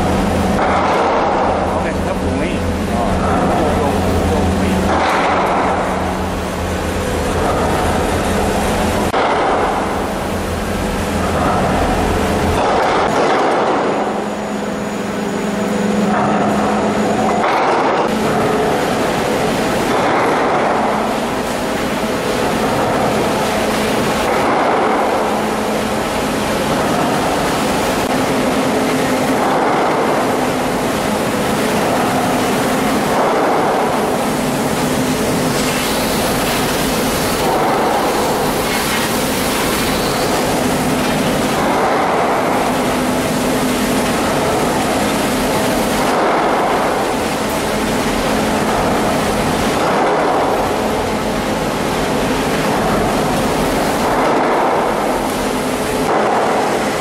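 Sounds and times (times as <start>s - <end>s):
machinery hum: 0.0s - 57.0s
noisy wash: 0.0s - 57.0s.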